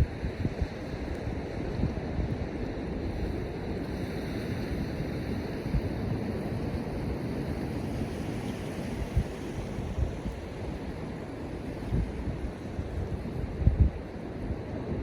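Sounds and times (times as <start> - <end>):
surf washing on beach: 0.0 - 15.0
wind buffeting microphone: 0.0 - 15.0.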